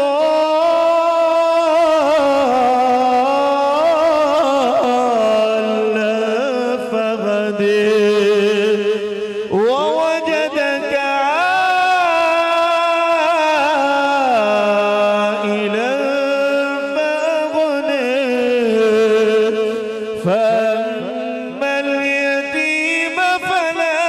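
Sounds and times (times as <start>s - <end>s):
man reciting melodically: 0.0s - 24.0s.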